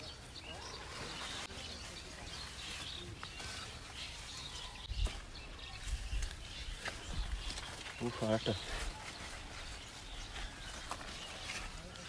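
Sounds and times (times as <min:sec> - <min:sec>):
birds chirping: 0:00.0 - 0:12.0
outdoor background noise: 0:00.0 - 0:12.0.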